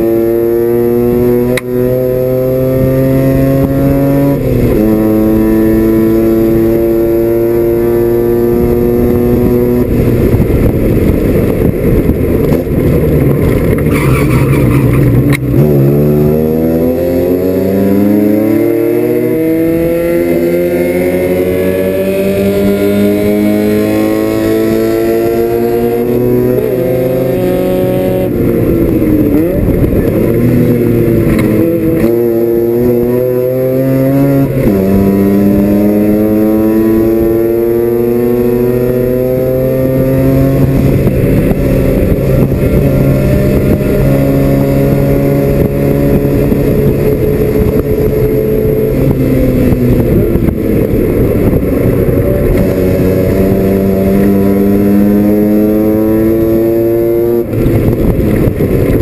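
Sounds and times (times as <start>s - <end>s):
racing engine revving: 0.0s - 59.0s
road and wind noise: 0.0s - 59.0s.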